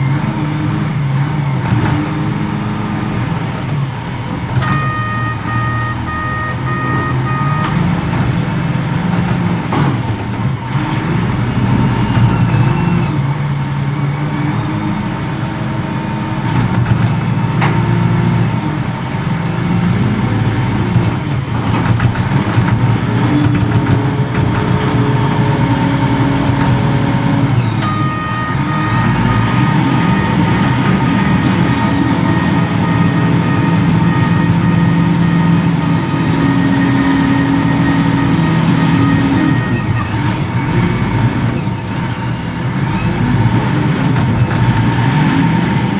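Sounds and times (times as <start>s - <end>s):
diesel engine under load: 0.0s - 45.9s.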